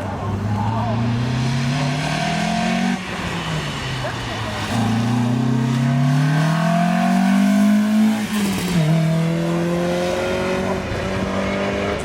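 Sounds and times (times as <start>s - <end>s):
rally car engine accelerating: 0.1s - 12.0s.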